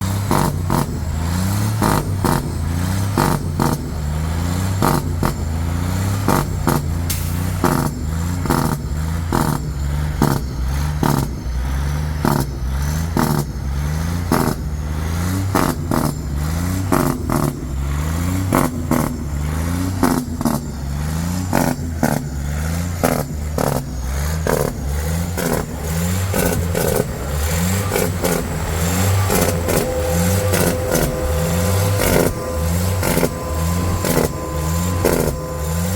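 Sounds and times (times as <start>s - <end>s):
bus body rattling and knocking: 0.0s - 34.4s
diesel bus engine under load: 0.0s - 35.9s.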